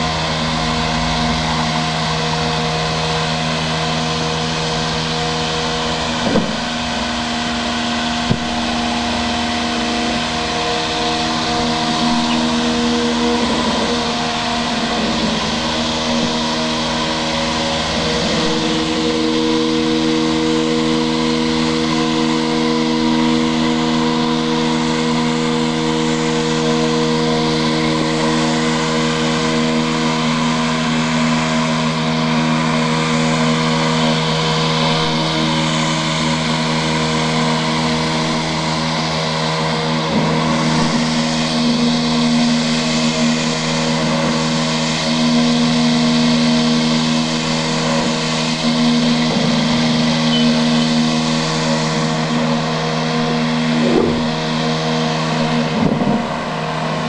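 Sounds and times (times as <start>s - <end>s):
electric mower motor hum: 0.0s - 57.0s.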